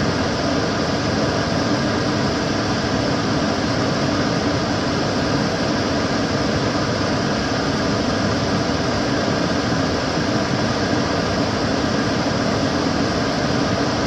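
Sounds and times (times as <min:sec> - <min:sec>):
extractor fan running: 0:00.0 - 0:14.0.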